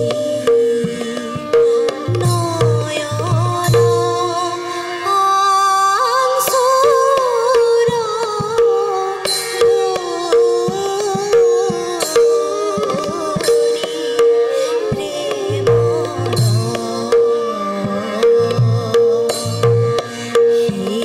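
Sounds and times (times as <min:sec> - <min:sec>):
bamboo flute: 0:00.0 - 0:21.0
tanpura drone: 0:00.0 - 0:21.0
violin melody: 0:00.0 - 0:21.0.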